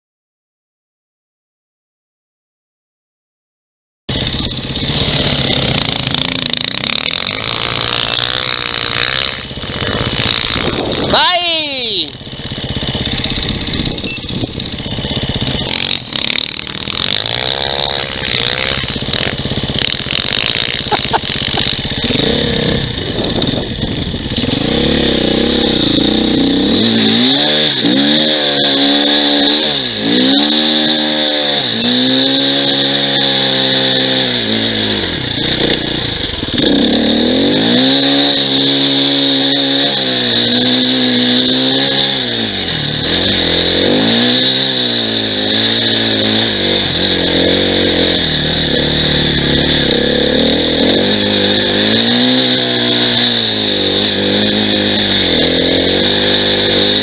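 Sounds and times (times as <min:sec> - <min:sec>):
motorcycle engine revving: 0:04.1 - 0:57.0.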